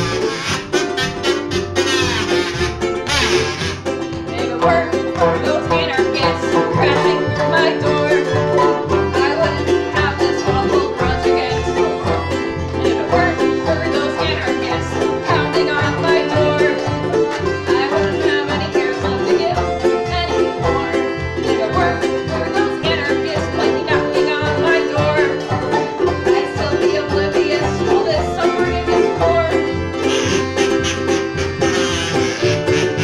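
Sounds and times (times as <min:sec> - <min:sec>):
accordion chords: 0:00.0 - 0:33.0
plucked banjo: 0:00.0 - 0:33.0
strummed ukulele: 0:00.0 - 0:33.0.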